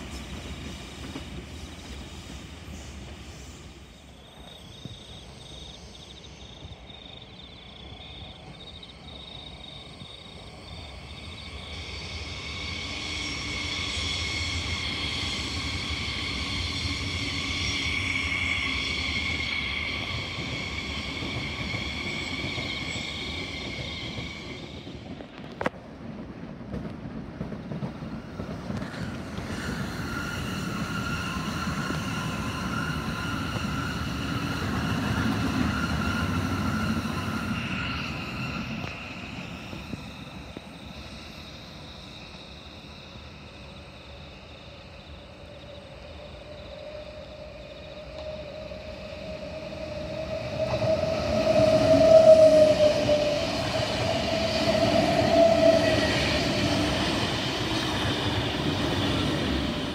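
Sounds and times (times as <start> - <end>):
electric train rumble and whine: 0.0 - 59.9.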